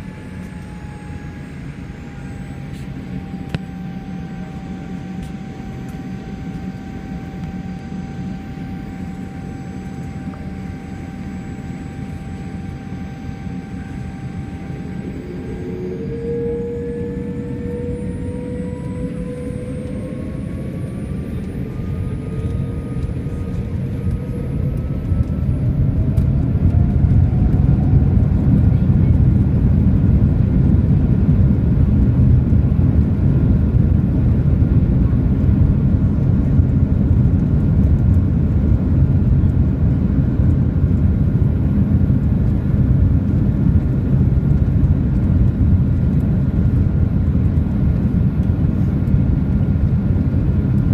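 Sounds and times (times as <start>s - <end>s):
high engine whine: 0.0s - 50.9s
jet engines roaring: 0.0s - 50.9s.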